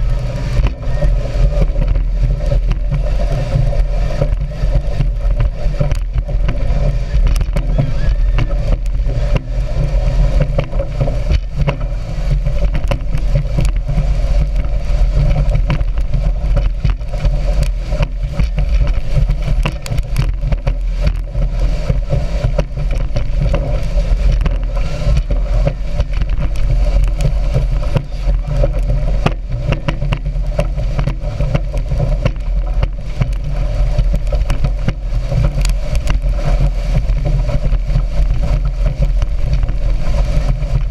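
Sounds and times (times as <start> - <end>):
rush of wind and water: 0.0 - 40.9
speedboat engine: 0.0 - 40.9.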